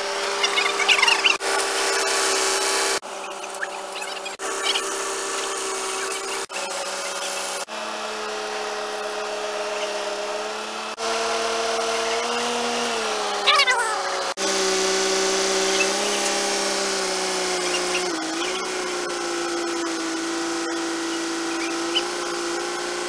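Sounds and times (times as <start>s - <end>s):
crane engine and hydraulics whine: 0.0s - 23.0s.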